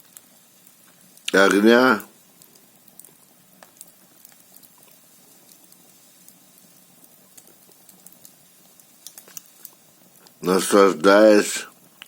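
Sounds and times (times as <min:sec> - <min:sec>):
wood fire hissing and crackling: 0:00.0 - 0:12.0.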